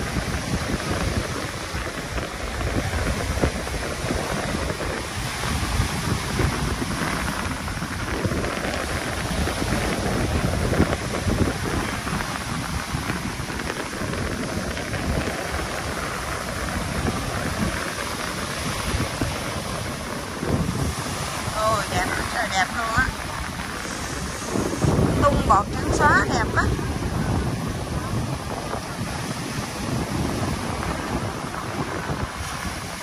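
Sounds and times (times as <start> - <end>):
sea waves breaking on a beach: 0.0 - 33.0
wind buffeting the microphone: 0.0 - 33.0.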